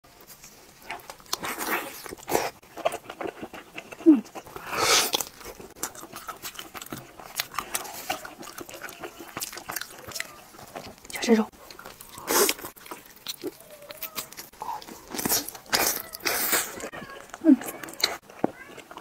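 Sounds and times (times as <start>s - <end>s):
wet chewing and lip smacks: 0.4s - 19.0s.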